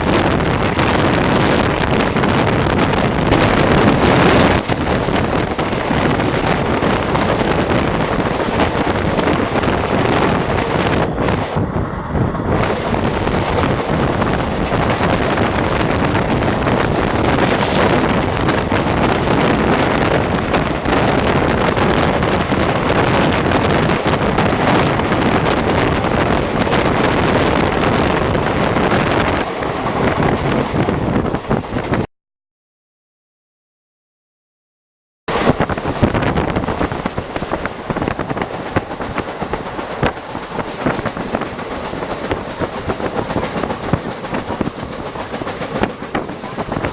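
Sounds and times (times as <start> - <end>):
train coach rumbling on rails: 0.0 - 32.1, 35.3 - 46.9
wind rushing over microphone: 0.0 - 32.1, 35.3 - 46.9.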